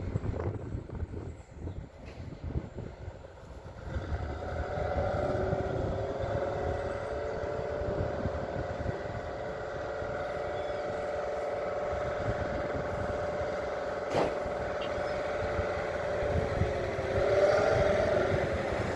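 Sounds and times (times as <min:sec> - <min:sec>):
engine running: 0:00.0 - 0:18.9.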